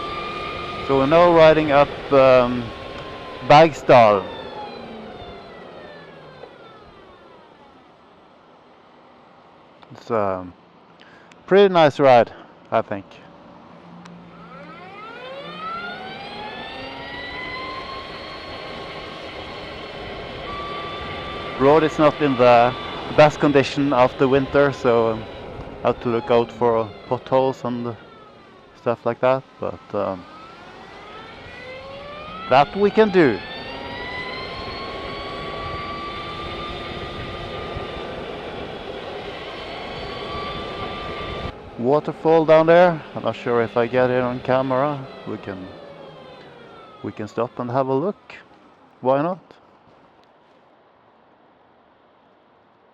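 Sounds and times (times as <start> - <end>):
electric motor whine: 0.0 - 8.4, 13.9 - 49.0
wind and tyre noise: 0.0 - 52.9.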